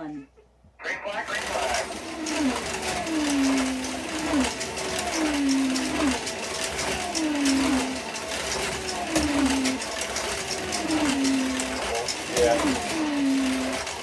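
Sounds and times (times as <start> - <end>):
slot car motor whining: 1.0 - 14.0.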